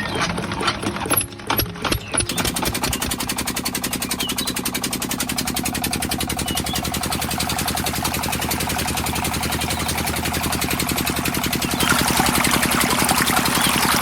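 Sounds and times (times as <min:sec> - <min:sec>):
model diesel engine running: 0:00.0 - 0:14.0.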